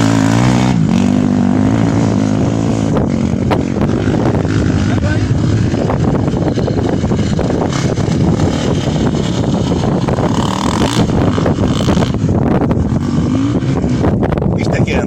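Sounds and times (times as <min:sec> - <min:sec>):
vehicle engine running loudly: 0:00.0 - 0:15.0.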